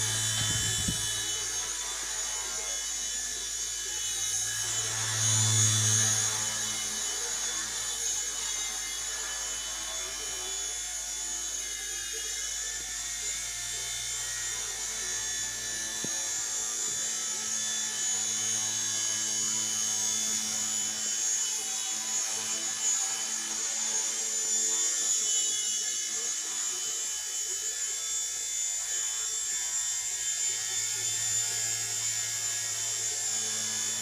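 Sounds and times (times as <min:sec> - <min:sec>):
small helicopter rotors whining: 0:00.0 - 0:34.0.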